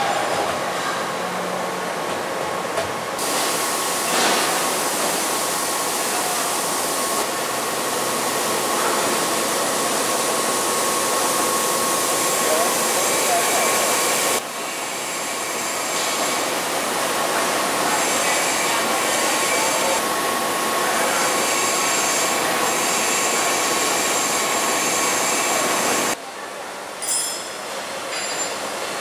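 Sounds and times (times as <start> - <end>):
loud machinery with whining: 0.0 - 26.2
workshop noise: 0.0 - 26.2, 27.0 - 29.0.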